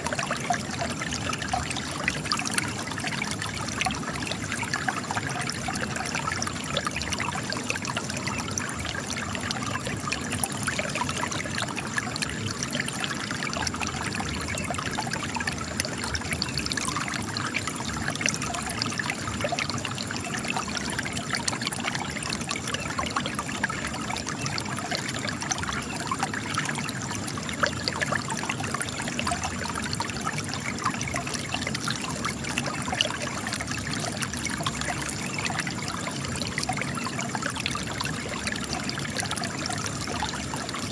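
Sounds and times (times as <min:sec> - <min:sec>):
spring water trickling over rocks: 0:00.0 - 0:40.9.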